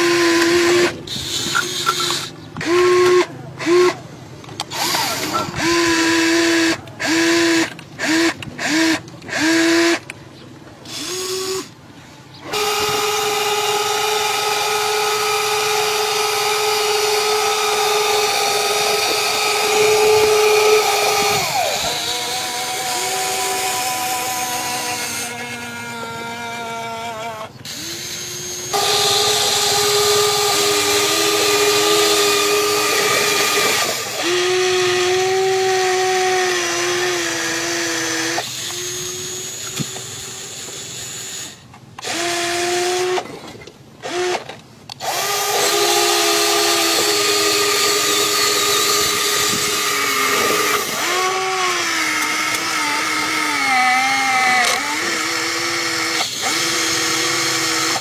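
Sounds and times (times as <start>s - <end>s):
toy excavator electric motors whining: 0.0s - 10.2s, 10.8s - 58.0s.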